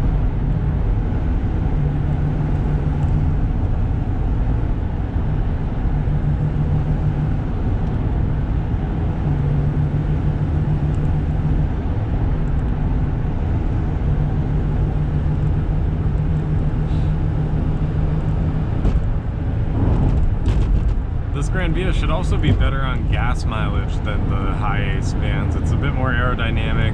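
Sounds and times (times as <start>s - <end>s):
diesel engine running: 0.0s - 26.9s
road and wind noise: 0.0s - 26.9s.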